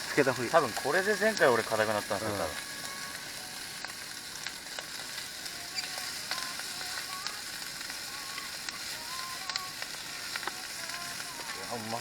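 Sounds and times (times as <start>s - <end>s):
meat sizzling over charcoal: 0.0s - 12.0s
sharp crackles and pops: 0.0s - 12.0s.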